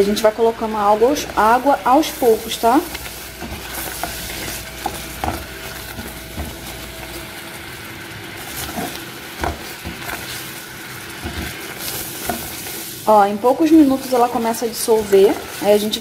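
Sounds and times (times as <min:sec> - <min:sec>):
paste sizzling in a pan: 0:00.0 - 0:16.0.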